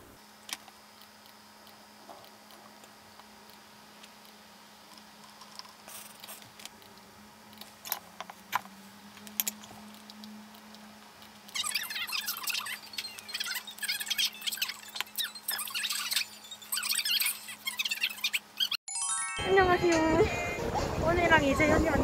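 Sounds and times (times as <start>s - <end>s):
faint steady hum: 0.0s - 18.7s.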